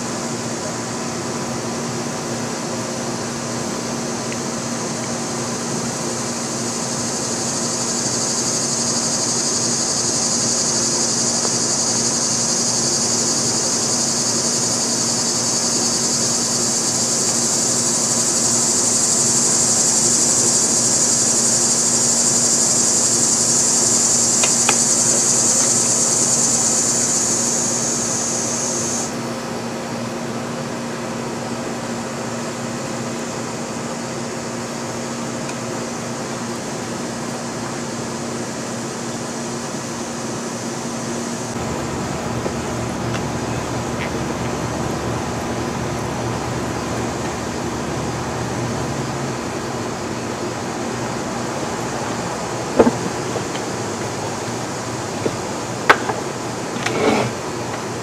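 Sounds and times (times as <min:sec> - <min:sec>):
high insect drone: 0:00.0 - 0:58.0
low mechanical hum: 0:00.0 - 0:58.0.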